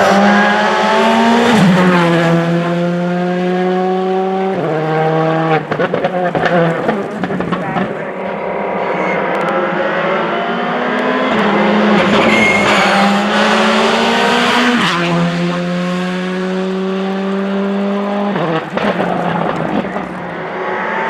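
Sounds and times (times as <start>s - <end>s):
rally car accelerating hard: 0.0s - 21.0s
tyre and road noise: 0.0s - 21.0s.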